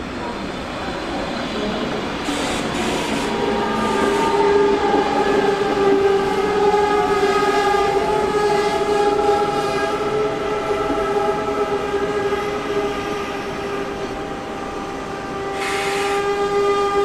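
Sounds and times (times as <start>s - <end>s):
high-pitched train whine: 0.0s - 17.0s
train moving: 0.0s - 17.0s.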